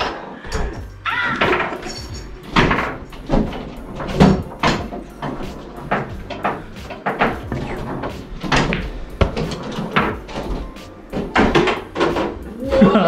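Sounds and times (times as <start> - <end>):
irregular knocks and thuds: 0.5 - 13.0.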